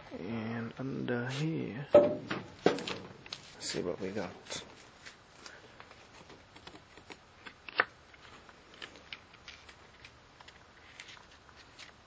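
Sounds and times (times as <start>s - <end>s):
plastic sheets rustling: 2.2s - 12.0s.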